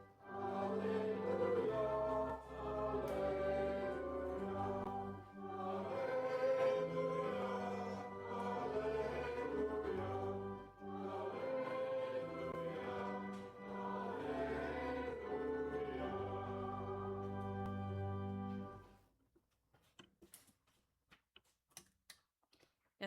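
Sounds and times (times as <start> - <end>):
voices singing a hymn: 0.0 - 18.7
organ bass notes: 0.0 - 18.8.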